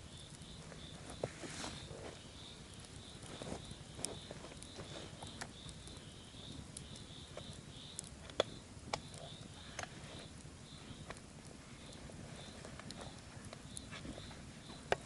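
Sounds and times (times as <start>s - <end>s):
sharp cracks and snaps: 1.8s - 15.0s.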